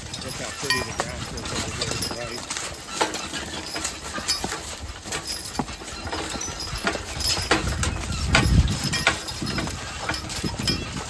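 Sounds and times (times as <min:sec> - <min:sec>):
horse hooves clopping: 0:00.0 - 0:11.0.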